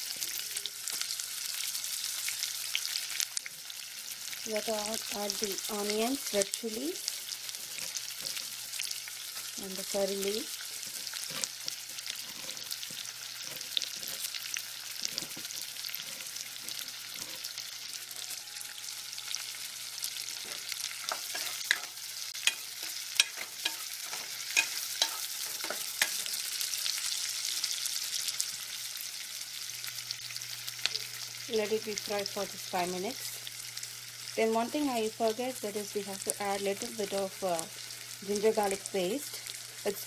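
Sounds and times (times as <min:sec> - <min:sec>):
onions sizzling in hot oil: 0:00.0 - 0:40.0.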